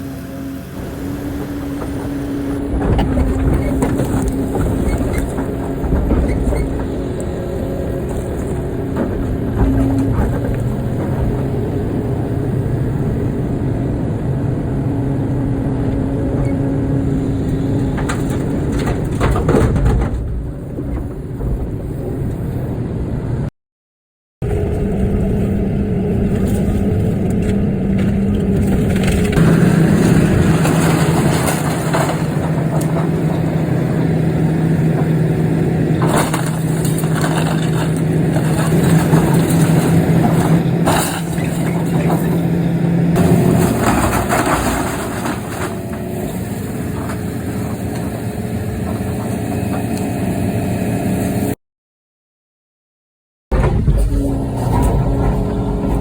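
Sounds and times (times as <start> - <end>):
excavator engine and hydraulics: 0.0 - 23.5, 24.4 - 51.6, 53.5 - 56.0.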